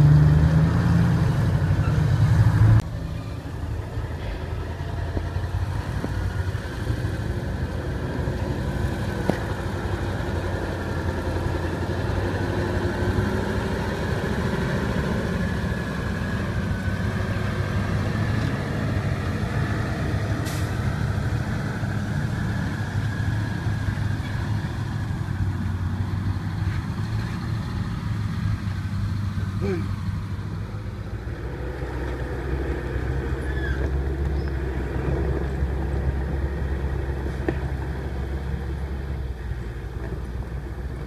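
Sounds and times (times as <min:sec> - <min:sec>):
heavy machinery engine humming: 0:00.0 - 0:41.0.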